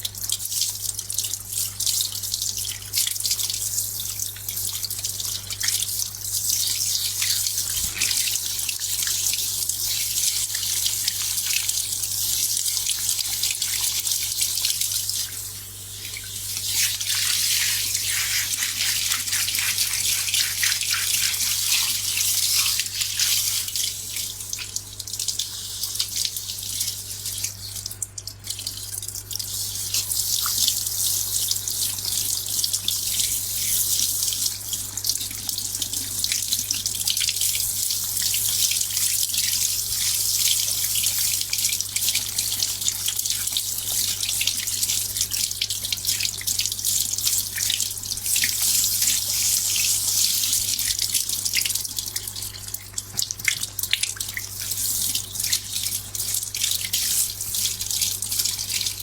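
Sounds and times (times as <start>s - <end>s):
running water splashing into basin: 4.2s - 59.0s.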